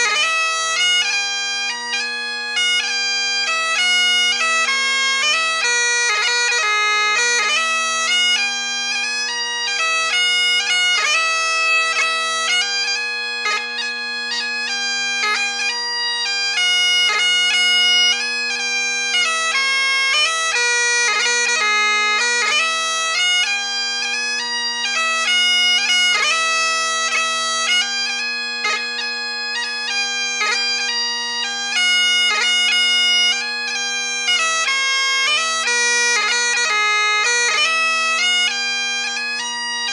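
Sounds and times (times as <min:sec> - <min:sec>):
bagpipe drones humming: 0:00.0 - 0:39.9
bagpipe march melody: 0:00.0 - 0:39.9.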